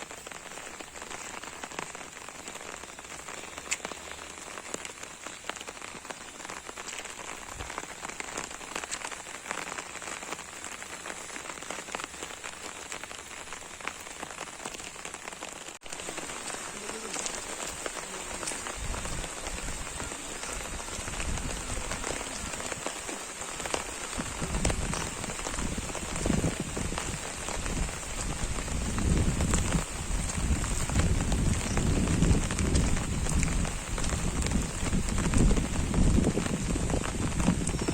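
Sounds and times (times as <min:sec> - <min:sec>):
rain pattering on an umbrella: 0:00.0 - 0:37.9.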